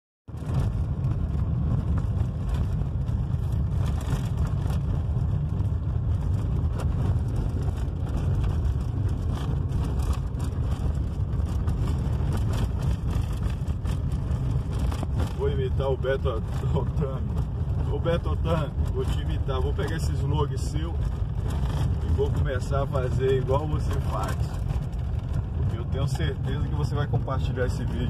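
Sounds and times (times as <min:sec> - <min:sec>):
low rumble of engine and tyres: 0:00.3 - 0:28.0.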